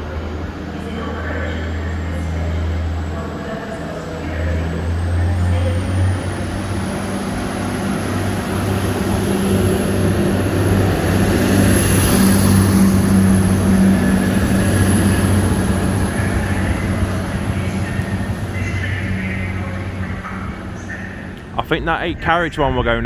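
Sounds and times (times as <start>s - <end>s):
train mechanical drone: 0.0s - 23.0s.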